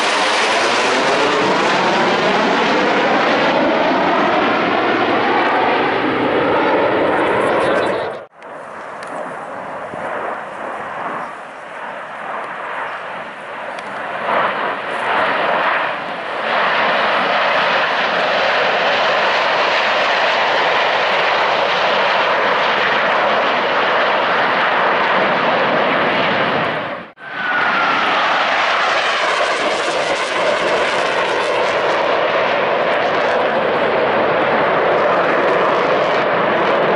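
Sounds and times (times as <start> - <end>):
falling jet whine: 0.0 - 36.9
jet roar: 0.0 - 36.9.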